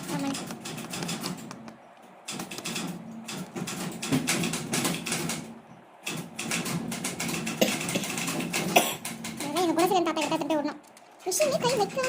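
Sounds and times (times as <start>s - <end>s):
manual typewriter clattering: 0.0s - 12.0s.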